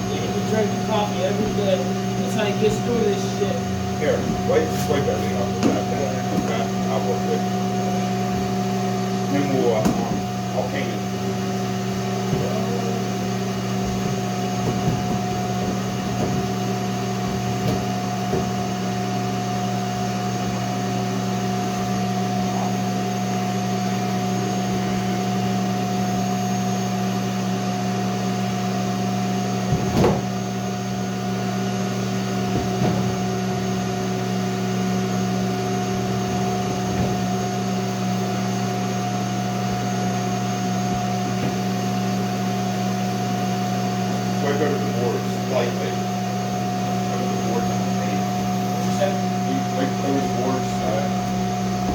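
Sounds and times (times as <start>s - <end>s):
electric motor drone: 0.0s - 51.9s.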